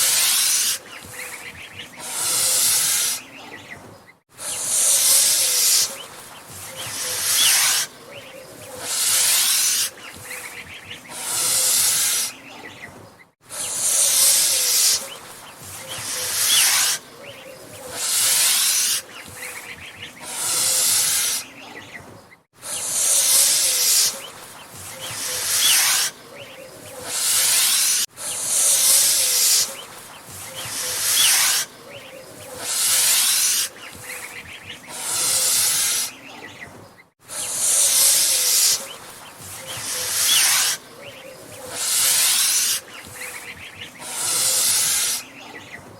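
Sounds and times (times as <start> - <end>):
goose hissing: 0.0 - 3.6, 4.3 - 12.7, 13.4 - 21.7, 22.6 - 36.4, 37.2 - 45.6.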